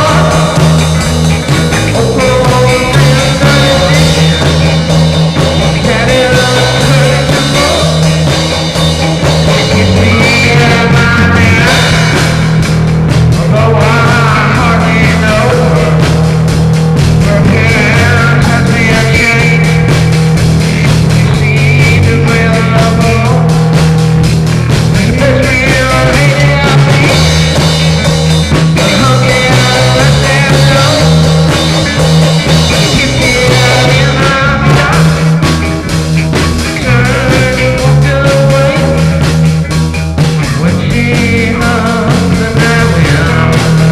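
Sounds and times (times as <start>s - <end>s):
psychedelic rock music: 0.0s - 43.9s.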